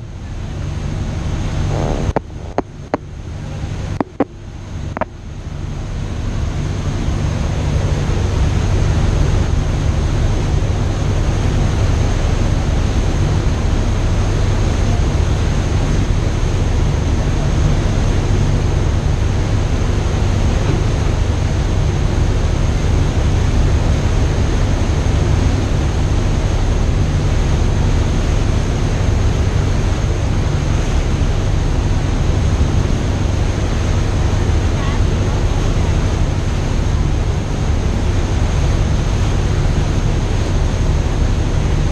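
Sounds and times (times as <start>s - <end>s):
boat engine droning: 0.0s - 41.9s
rushing water: 0.0s - 41.9s
wind on microphone: 0.0s - 41.9s.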